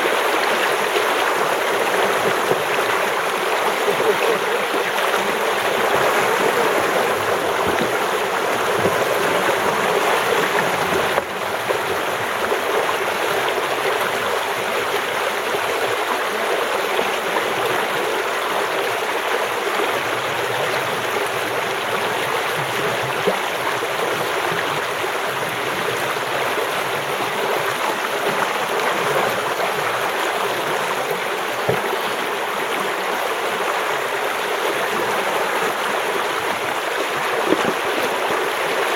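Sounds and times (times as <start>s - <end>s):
creek water rushing and splashing: 0.0s - 38.9s.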